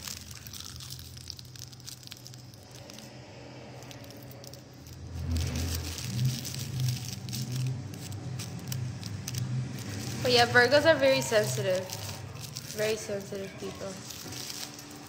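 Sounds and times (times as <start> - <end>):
low steady hum: 0.0 - 15.0
rolling paper crinkling: 0.0 - 15.0.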